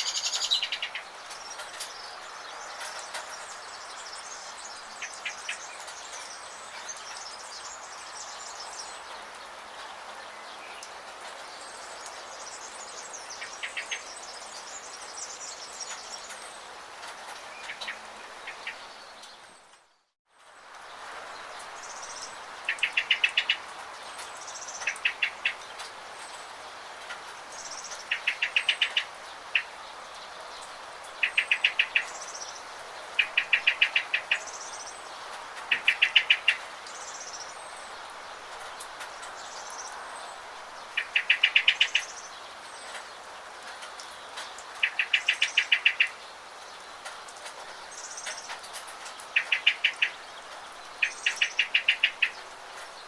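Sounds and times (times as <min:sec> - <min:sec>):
rain hissing: 0:00.0 - 0:53.0.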